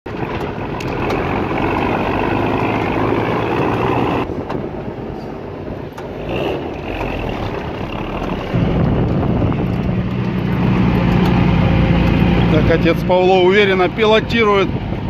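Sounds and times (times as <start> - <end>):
truck driving over rough ground: 0.1 - 15.0.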